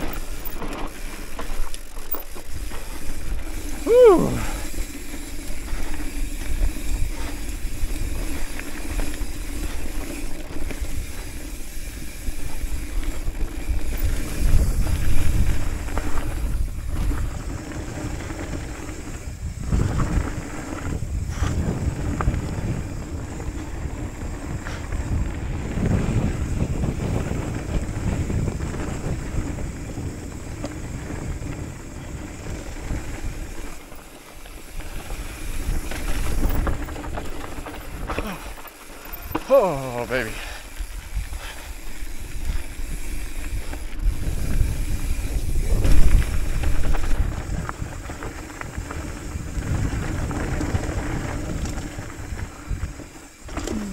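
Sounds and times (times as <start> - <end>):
wind buffeting microphone: 0.0 - 39.4, 40.0 - 53.9
bike tyres rolling on gravel: 0.0 - 53.9.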